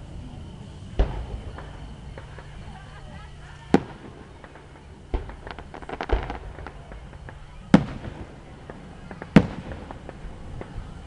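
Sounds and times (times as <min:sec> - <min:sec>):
firework crackling: 0:00.0 - 0:11.0
firework shells bursting: 0:00.4 - 0:11.0.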